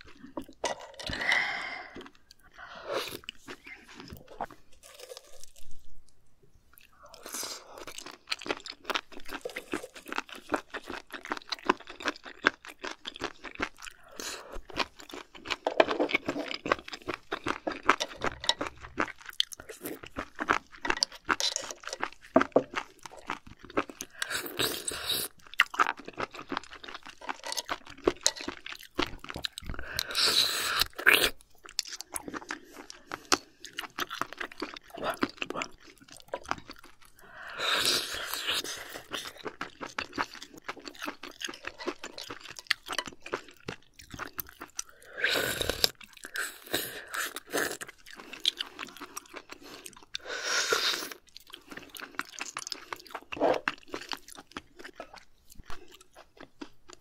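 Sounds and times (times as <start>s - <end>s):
person chewing wet crunchy food: 0.0s - 57.0s.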